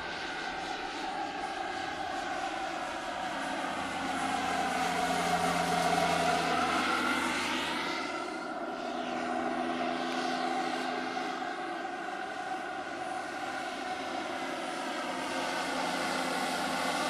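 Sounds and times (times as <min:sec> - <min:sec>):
model helicopter turbine whine: 0:00.0 - 0:17.0.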